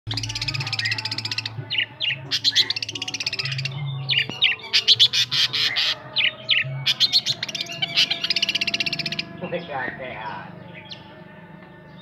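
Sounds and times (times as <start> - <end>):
bird chattering trills: 0.1 - 9.7.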